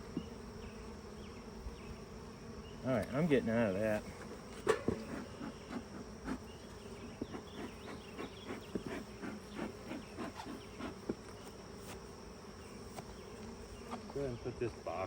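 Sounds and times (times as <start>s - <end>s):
hum of bee colony: 0.0s - 15.0s.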